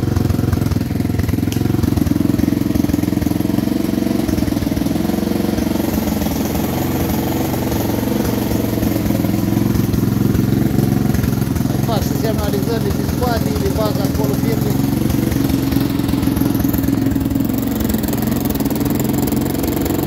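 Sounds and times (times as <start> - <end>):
atv engine idling: 0.0 - 20.0
radiator cooling fan running: 0.0 - 20.0.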